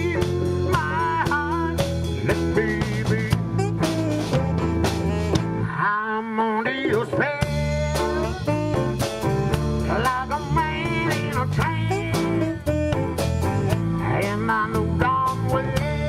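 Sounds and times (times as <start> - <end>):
song with guitar and drums: 0.0 - 16.0.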